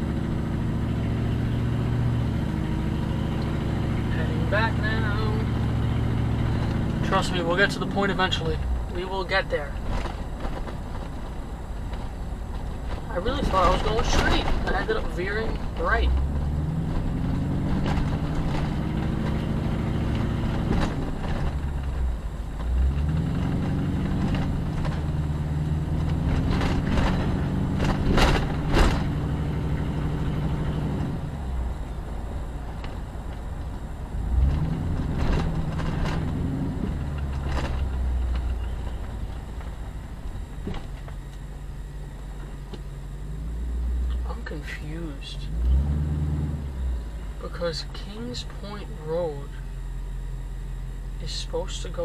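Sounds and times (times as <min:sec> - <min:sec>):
car engine: 0:00.0 - 0:52.0
road noise: 0:00.0 - 0:52.0.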